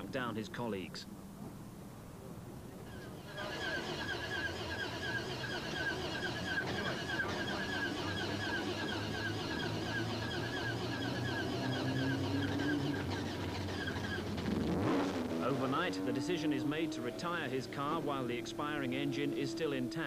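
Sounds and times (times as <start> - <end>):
engine cranking on starter: 2.9 - 20.0.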